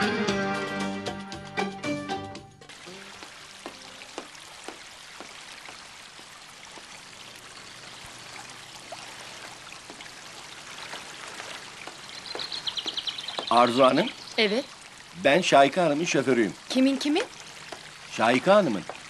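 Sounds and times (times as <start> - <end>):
fountain water splashing into pool: 2.7 - 19.0.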